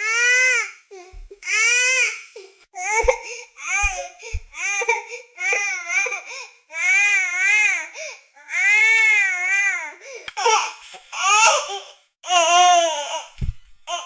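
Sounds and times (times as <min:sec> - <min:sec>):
baby sobbing: 0:00.0 - 0:13.3.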